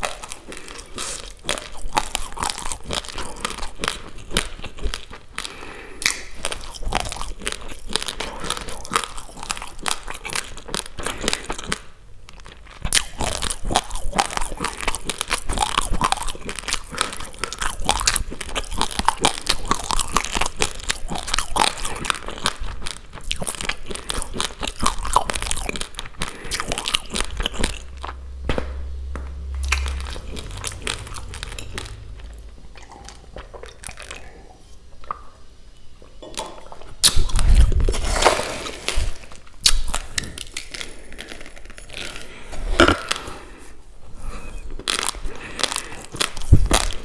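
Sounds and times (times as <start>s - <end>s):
chewing crunchy rice: 0.0s - 28.2s, 29.5s - 35.2s, 36.3s - 47.0s.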